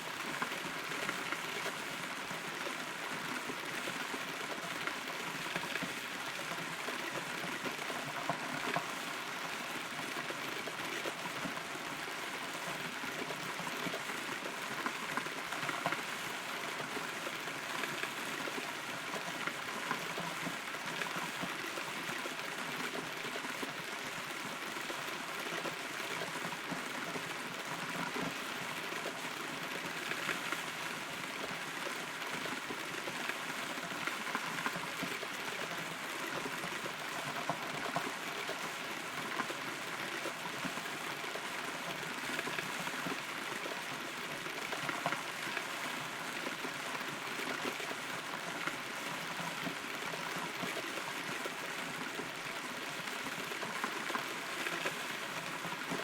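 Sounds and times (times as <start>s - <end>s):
rain drops ticking on wood: 0.1s - 56.0s.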